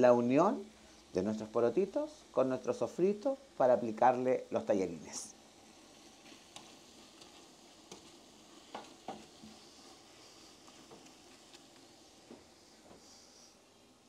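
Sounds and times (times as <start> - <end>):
faint sizzling in a pot: 0.0 - 14.0.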